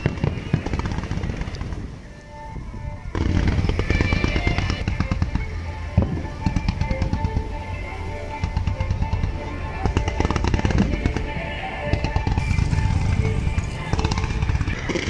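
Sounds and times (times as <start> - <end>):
fireworks popping and crackling: 0.0 - 2.2, 3.1 - 7.6, 8.3 - 15.0.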